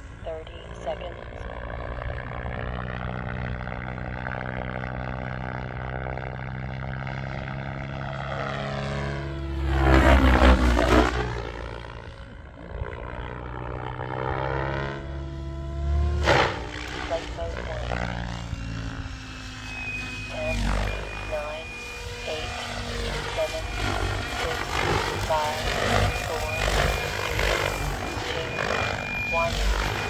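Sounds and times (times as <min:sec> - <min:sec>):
model aircraft motor drone: 0:00.0 - 0:30.0.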